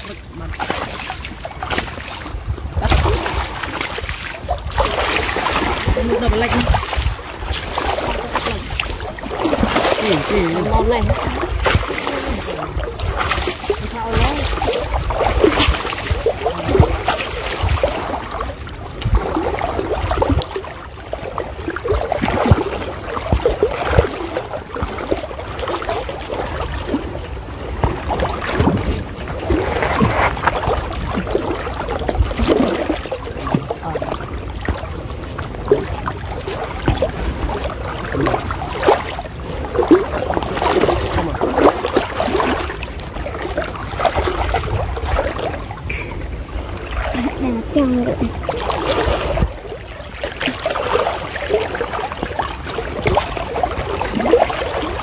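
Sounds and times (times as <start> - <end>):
water sloshing and splashing: 0.0 - 55.0
wind on microphone: 0.0 - 55.0.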